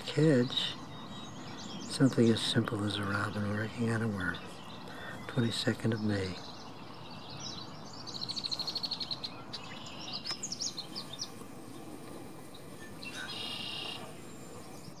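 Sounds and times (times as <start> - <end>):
low background noise: 0.0 - 15.0
songbird trill: 0.0 - 15.0
high bird chirps: 0.5 - 15.0.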